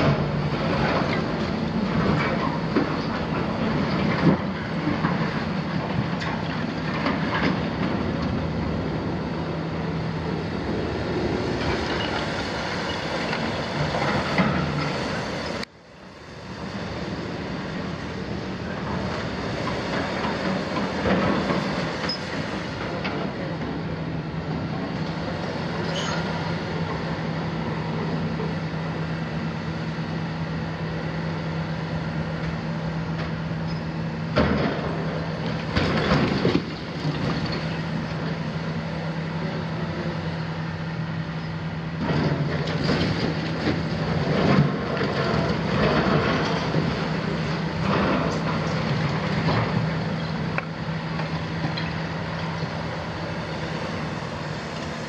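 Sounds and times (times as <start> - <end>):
diesel excavator engine running: 0.0 - 55.0.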